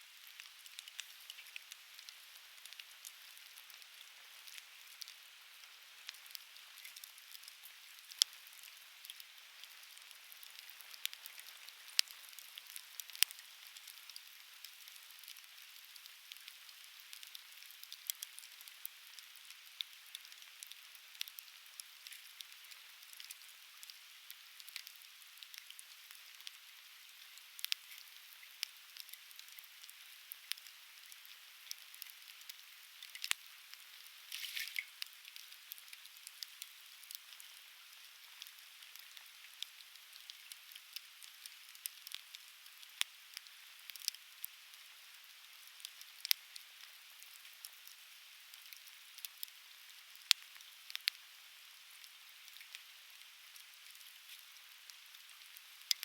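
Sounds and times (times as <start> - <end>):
campfire crackling and popping: 0.2 - 26.7, 27.4 - 44.6, 45.6 - 51.2, 52.0 - 56.0.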